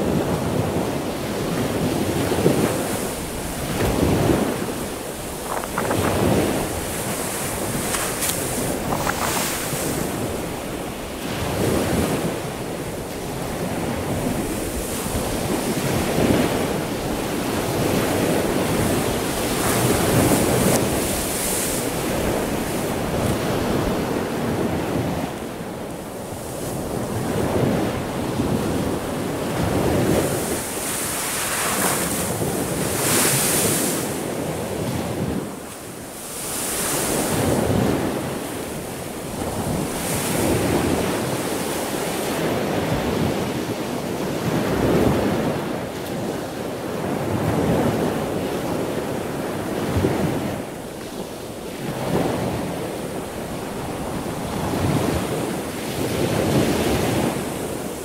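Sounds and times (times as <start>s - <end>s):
heavy surf breaking: 0.0s - 58.0s
wind gusting on microphone: 0.0s - 58.0s.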